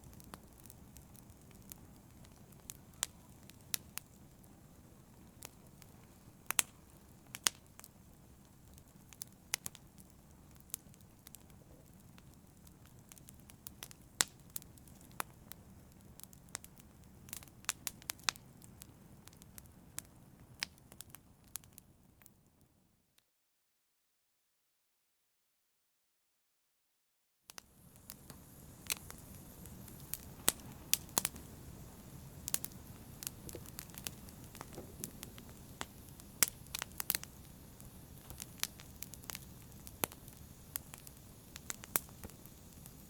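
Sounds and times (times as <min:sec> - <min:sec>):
fire crackling: 0:00.0 - 0:22.4, 0:27.5 - 0:43.0.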